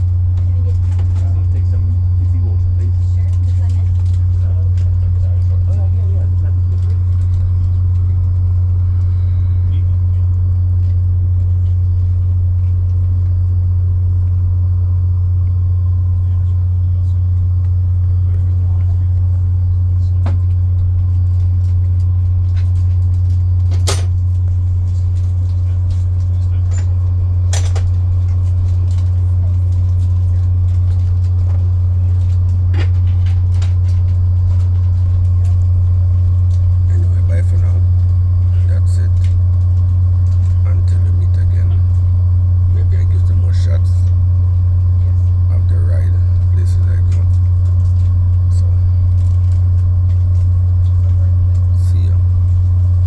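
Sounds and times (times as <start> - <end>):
moving train rumble: 0.0 - 53.0
vehicle engine drone: 0.0 - 53.0.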